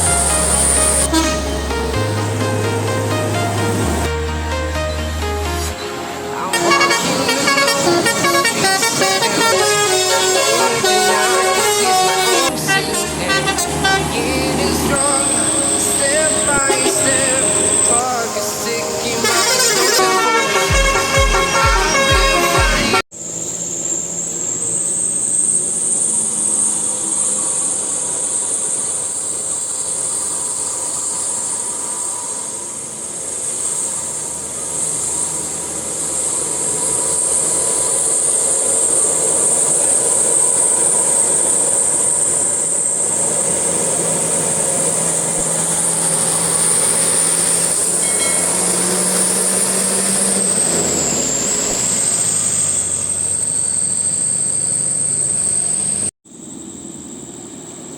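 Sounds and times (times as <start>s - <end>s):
bus engine and tyres rumbling: 0.0s - 57.9s
high-pitched whine: 0.0s - 57.9s.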